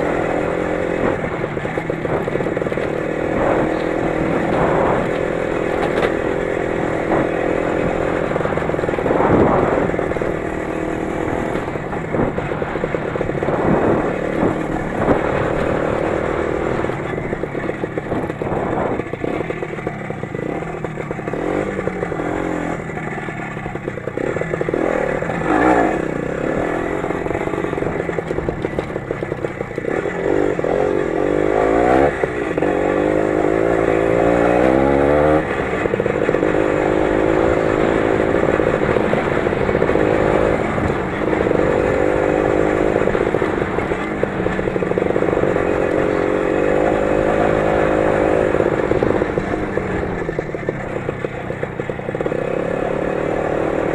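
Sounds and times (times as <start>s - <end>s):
engine running under load: 0.0s - 53.9s.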